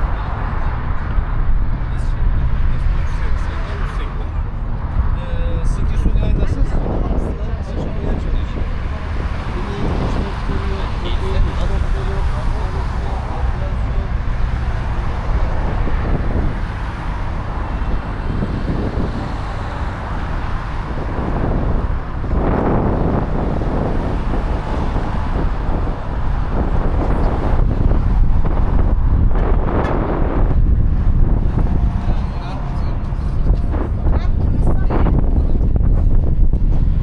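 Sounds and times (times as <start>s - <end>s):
road traffic passing: 0.0s - 37.0s
wind buffeting microphone: 0.0s - 37.0s.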